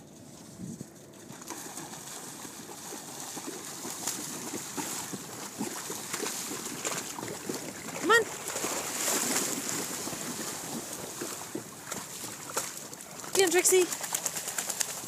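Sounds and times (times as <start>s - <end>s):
dogs splashing through shallow water: 1.0s - 15.0s.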